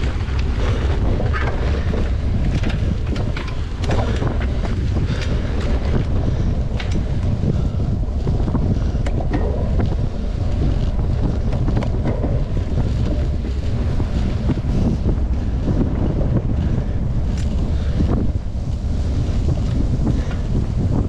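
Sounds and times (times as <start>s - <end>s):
light clicks and rattles: 0.0s - 18.7s
wind buffeting microphone: 0.0s - 21.0s.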